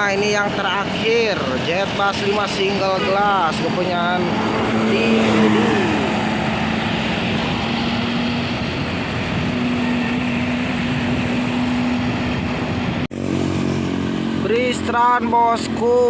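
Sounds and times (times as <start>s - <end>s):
bus engine and tyre noise: 0.0s - 16.0s
traffic noise: 0.0s - 16.0s.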